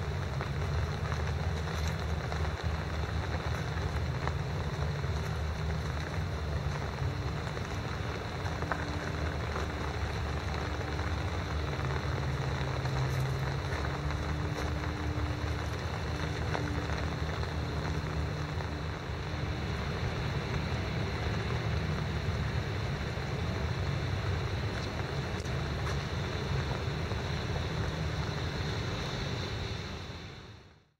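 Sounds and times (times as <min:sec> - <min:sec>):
rain pattering: 0:00.0 - 0:30.7
low steady hum: 0:00.0 - 0:30.9.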